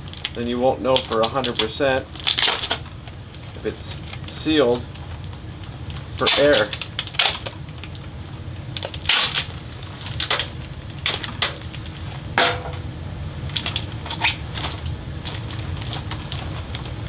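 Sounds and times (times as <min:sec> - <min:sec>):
foil duct crinkling: 0:00.0 - 0:12.4, 0:13.2 - 0:17.0
low hum: 0:02.1 - 0:17.0.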